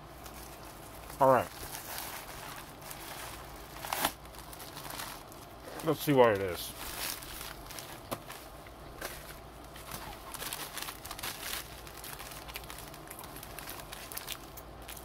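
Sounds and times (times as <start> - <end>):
bubble-wrap mailer crinkling: 0.0 - 15.0.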